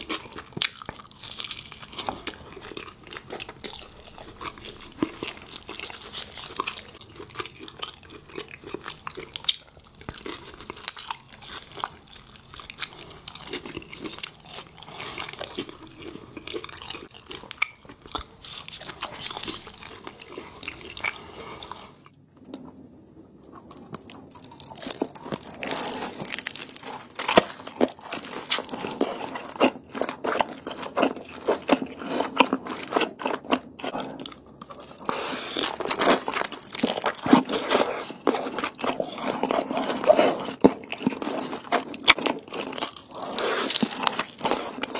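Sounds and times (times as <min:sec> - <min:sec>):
chewing and crunching crispy tacos: 0:00.0 - 0:22.7, 0:23.4 - 0:44.9.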